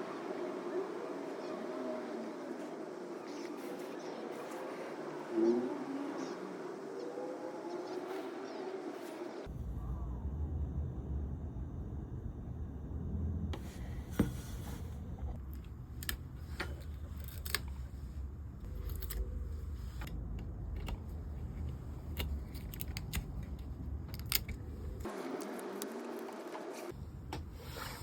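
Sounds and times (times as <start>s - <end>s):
low hum: 0.0s - 25.1s.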